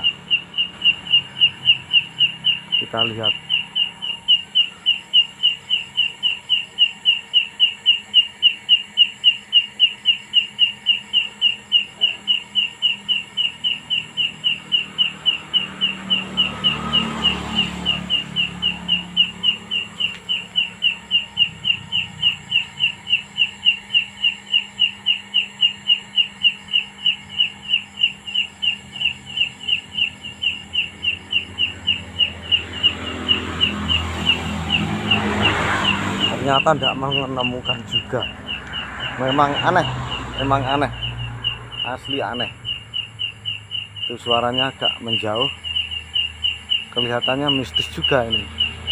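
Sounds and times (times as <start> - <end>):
insect chirping: 0.0 - 48.9.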